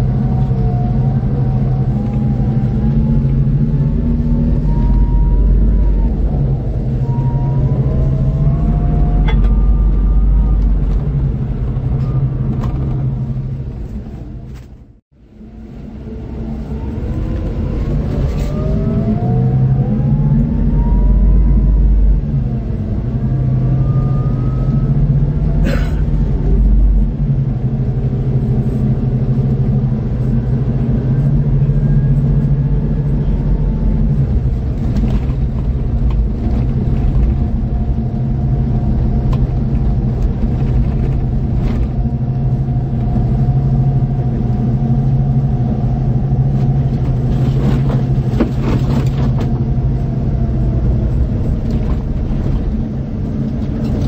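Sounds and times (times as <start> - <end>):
diesel coach engine rumbling: 0.0 - 54.0
engine whine rising in pitch: 0.0 - 54.0.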